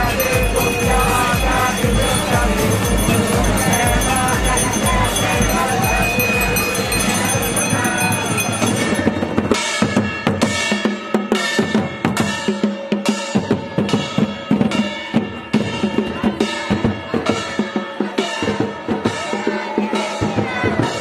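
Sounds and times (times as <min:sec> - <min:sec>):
drums beating fast rhythm: 0:00.0 - 0:21.0.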